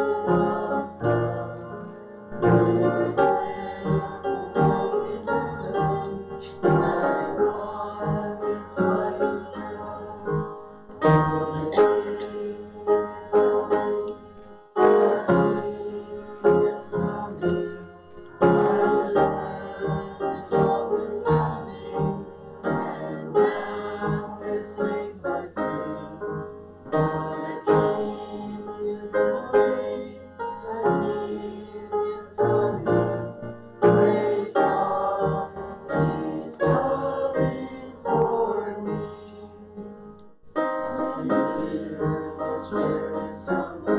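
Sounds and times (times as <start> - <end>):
piano playing hymn chords: 0.0 - 43.9.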